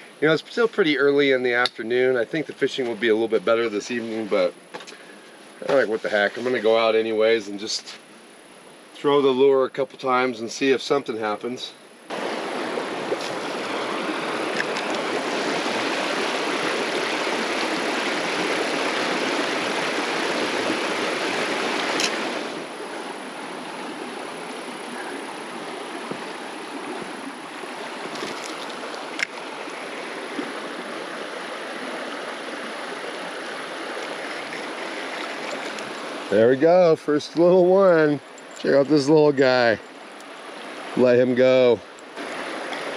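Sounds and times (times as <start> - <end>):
creek water rushing: 0.0 - 9.5, 10.1 - 42.9.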